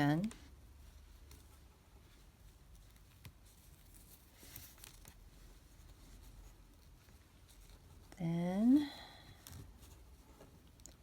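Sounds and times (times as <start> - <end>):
fabric rustling: 0.0 - 11.0.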